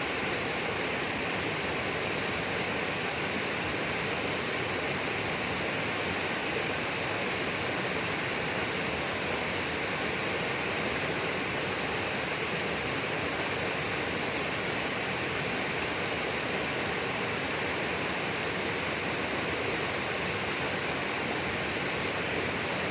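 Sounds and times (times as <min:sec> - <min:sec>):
flowing water rushing: 0:00.0 - 0:22.9.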